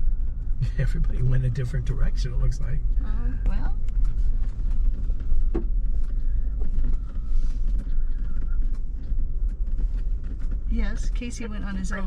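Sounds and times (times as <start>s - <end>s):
rattles and knocks from bumps: 0.0s - 12.0s
vehicle rumble on dirt road: 0.0s - 12.0s.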